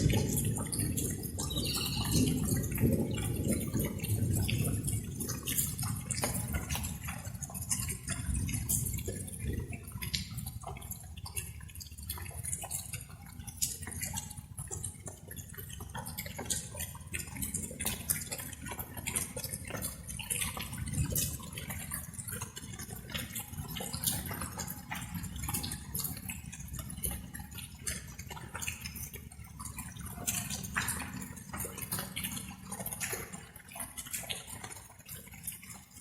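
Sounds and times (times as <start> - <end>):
rain drops pattering: 0.0 - 36.0.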